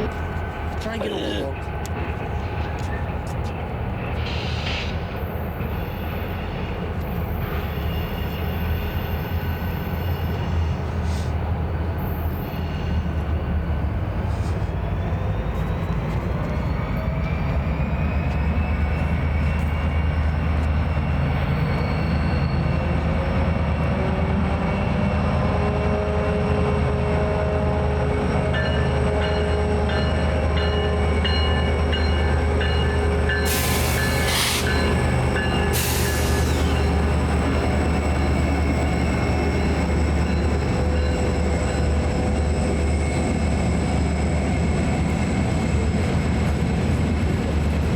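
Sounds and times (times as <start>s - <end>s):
freight train rumbling by: 0.0s - 47.9s.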